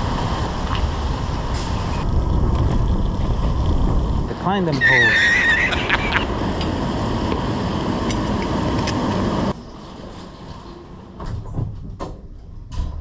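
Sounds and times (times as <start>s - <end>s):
road noise in the rain: 0.0s - 12.9s.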